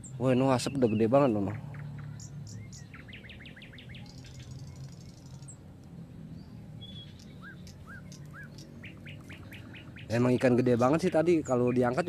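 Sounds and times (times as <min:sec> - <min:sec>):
sharp bird chirps: 0:00.0 - 0:05.6, 0:06.4 - 0:12.0
high buzzing bird trill: 0:00.0 - 0:12.0.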